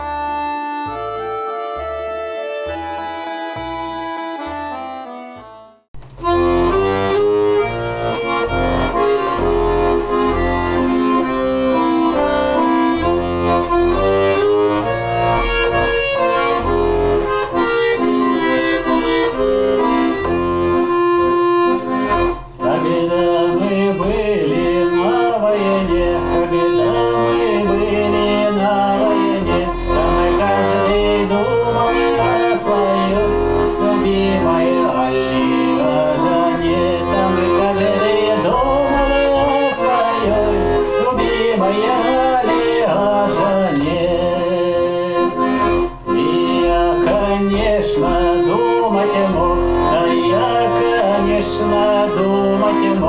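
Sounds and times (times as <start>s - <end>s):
accordion playing: 0.0s - 53.0s.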